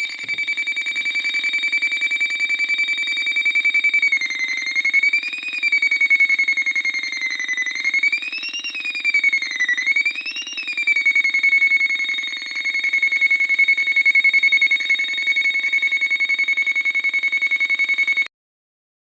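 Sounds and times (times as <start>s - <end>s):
shrill warbling electronic siren: 0.0s - 18.3s.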